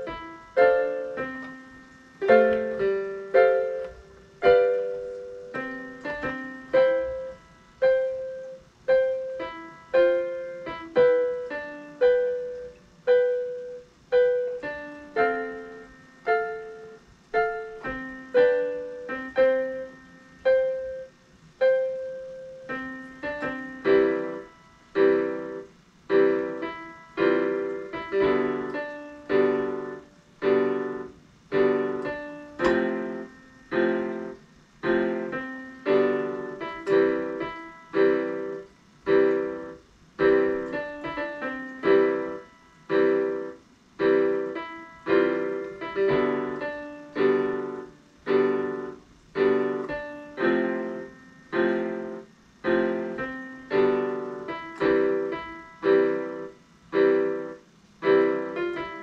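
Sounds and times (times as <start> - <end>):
electronic keyboard piano notes: 0.0 - 59.0.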